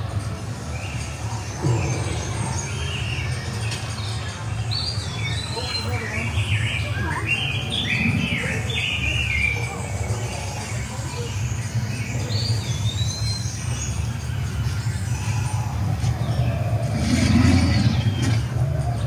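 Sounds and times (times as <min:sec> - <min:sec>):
birds chirping: 0:00.0 - 0:19.0
low outdoor rumble: 0:00.0 - 0:19.0.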